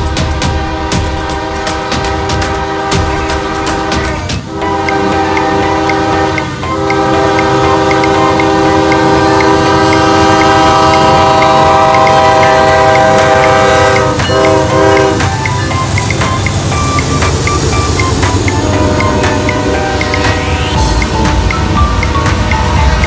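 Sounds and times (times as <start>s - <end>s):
train rumbling past: 0.0s - 23.0s
train air horn blasts: 0.4s - 16.7s, 18.6s - 20.8s.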